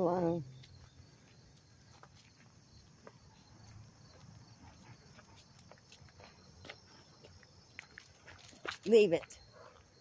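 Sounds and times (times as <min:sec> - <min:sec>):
footsteps on gravel: 0:00.6 - 0:09.8.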